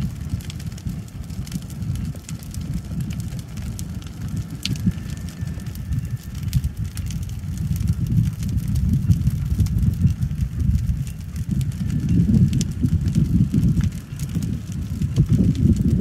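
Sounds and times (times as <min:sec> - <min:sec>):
brush fire crackling and popping: 0:00.0 - 0:16.0
low rumble: 0:00.0 - 0:16.0.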